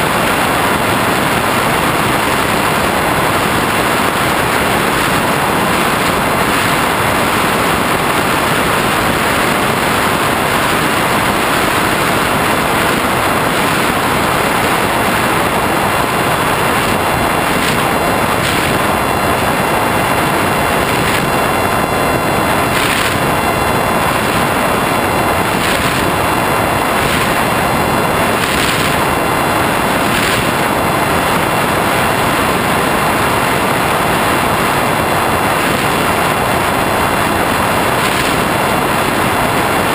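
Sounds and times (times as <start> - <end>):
propeller motor running: 0.0 - 39.9
wind rushing over microphone: 0.0 - 39.9.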